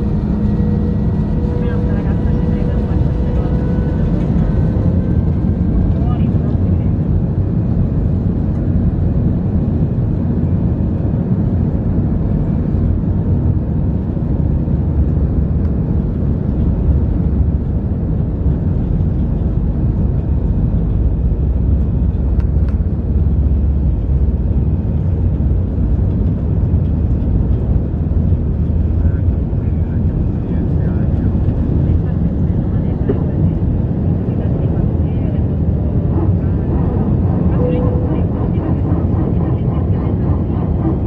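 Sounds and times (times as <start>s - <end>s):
jet engines rumbling in cabin: 0.0s - 41.0s.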